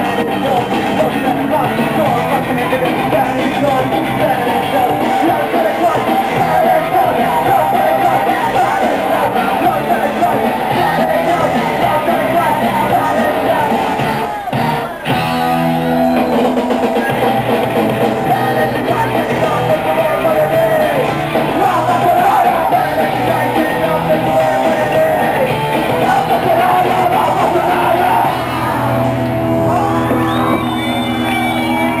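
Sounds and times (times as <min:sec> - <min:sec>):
person shouting singing: 0:00.0 - 0:15.3, 0:16.1 - 0:32.0
punk band playing live: 0:00.0 - 0:32.0.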